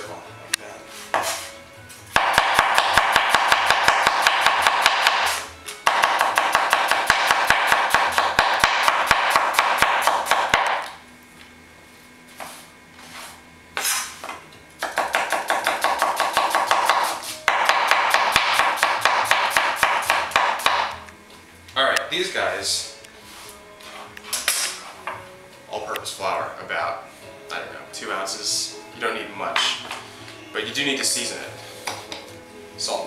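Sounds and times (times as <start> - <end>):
background music: 0.0 - 11.2, 14.4 - 33.0.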